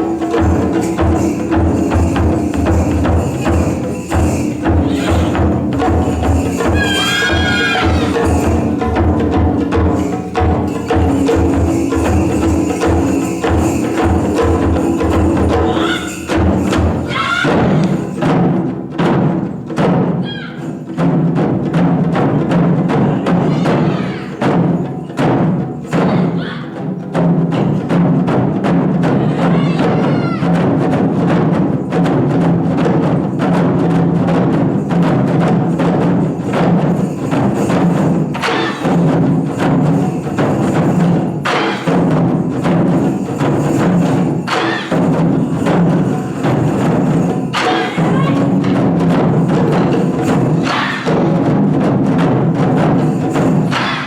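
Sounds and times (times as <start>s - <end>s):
taiko drums rapid strikes: 0.0s - 54.0s.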